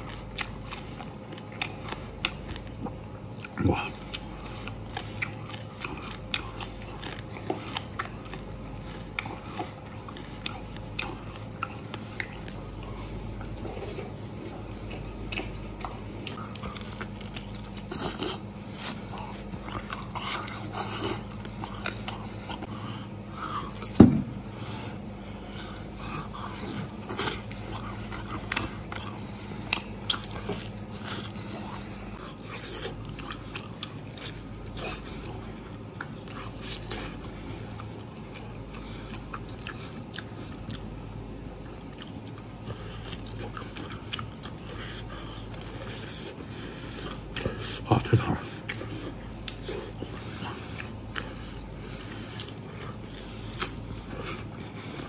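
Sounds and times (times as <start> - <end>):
chewing crispy pork crunches: 0.0 - 55.0
low steady hum: 0.0 - 55.0.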